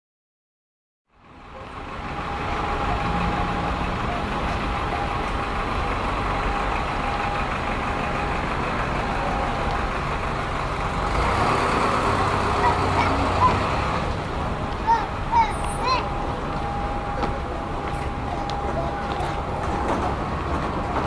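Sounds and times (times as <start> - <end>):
motor vehicle running: 1.1 - 21.0.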